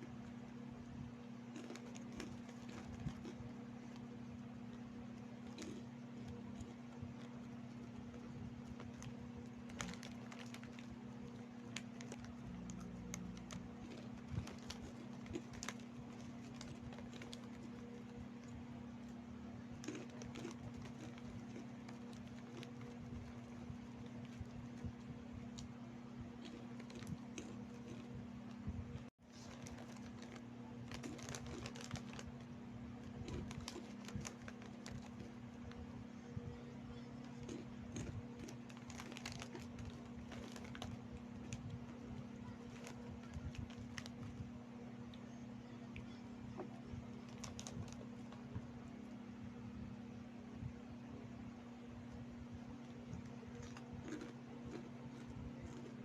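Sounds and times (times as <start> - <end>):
steady low hum: 0.0 - 56.0
chewing crunchy corn: 1.3 - 28.6, 29.2 - 36.0, 37.2 - 45.4, 46.6 - 48.6, 52.8 - 56.0.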